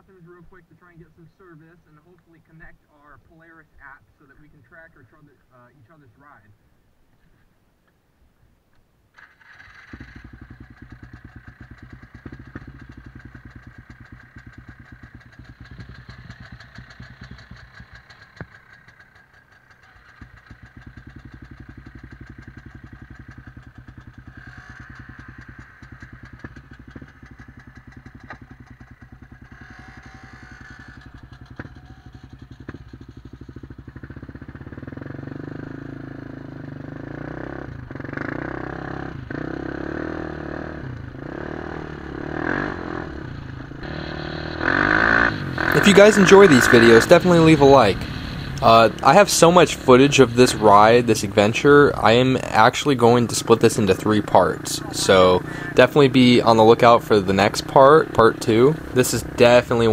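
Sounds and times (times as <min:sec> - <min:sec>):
quad engine idling: 0:09.2 - 0:59.9.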